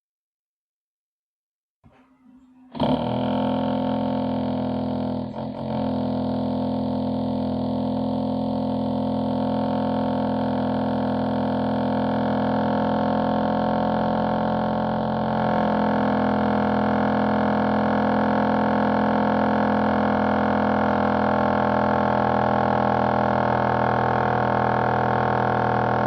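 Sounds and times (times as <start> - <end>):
electric drill boring into concrete: 2.7 - 26.0.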